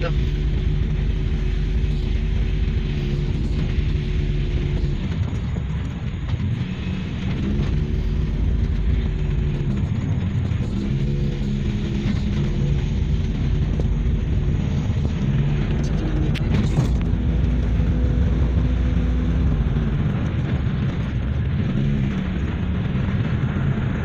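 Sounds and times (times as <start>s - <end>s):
car engine hum and road noise: 0.0s - 24.0s.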